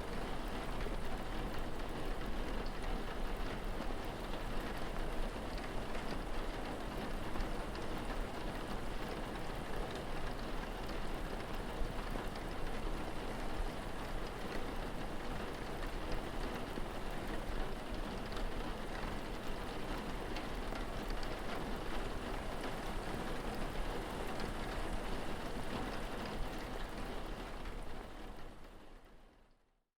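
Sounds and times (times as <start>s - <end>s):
steady rain pattering: 0.0s - 29.7s.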